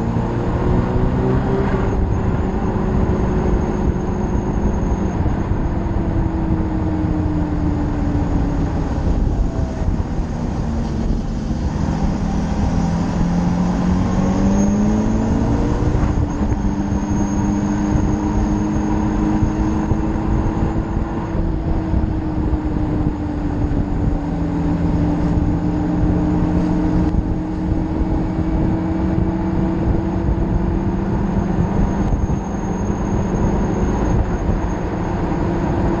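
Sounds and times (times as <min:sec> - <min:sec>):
motorcycle engine at speed: 0:00.0 - 0:36.0
wind rushing over microphone: 0:00.0 - 0:36.0.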